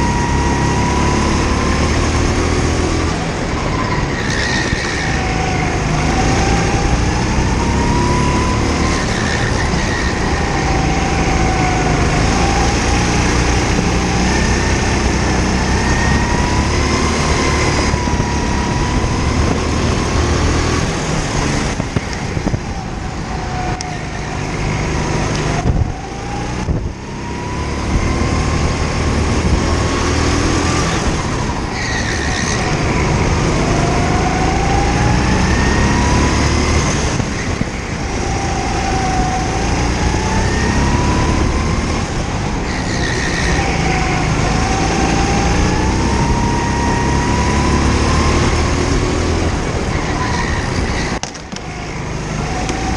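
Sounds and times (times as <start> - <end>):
go-kart engine revving: 0.0 - 52.9.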